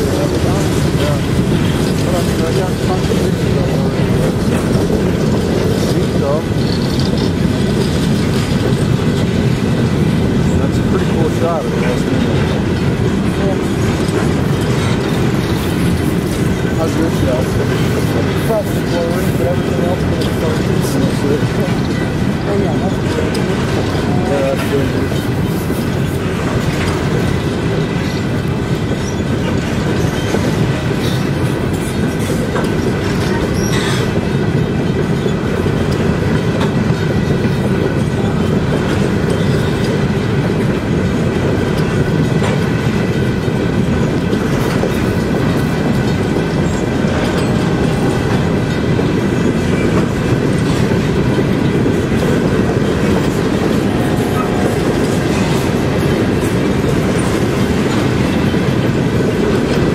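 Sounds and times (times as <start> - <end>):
freight train rumbling: 0.0 - 59.9
wheels clacking over rail joints: 0.0 - 59.9.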